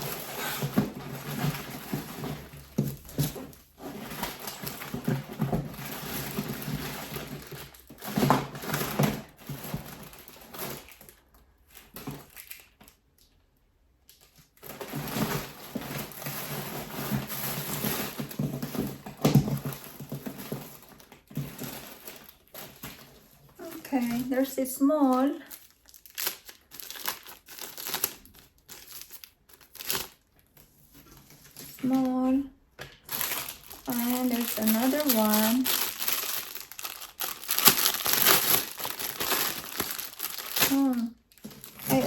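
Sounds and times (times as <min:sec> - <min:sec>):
packaging crinkling: 0:00.0 - 0:13.2, 0:14.2 - 0:42.0.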